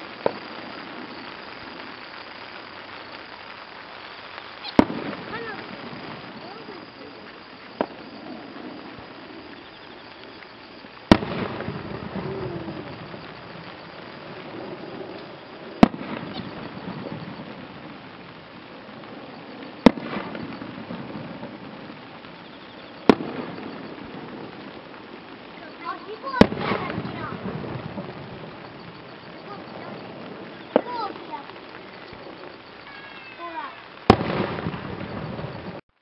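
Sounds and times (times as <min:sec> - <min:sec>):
firework shells booming: 0:00.0 - 0:35.8
rolling rumble: 0:00.0 - 0:35.8.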